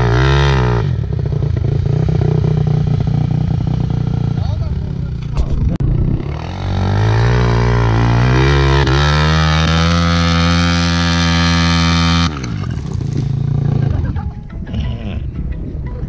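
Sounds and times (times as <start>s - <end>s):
dirt bike engine revving: 0.0s - 15.3s.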